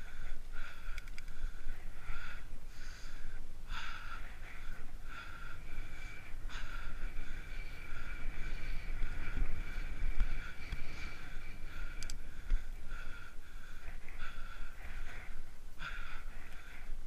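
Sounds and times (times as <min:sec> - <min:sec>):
bicycle tyre rumble: 0:00.0 - 0:17.0
wind on microphone: 0:00.0 - 0:17.0.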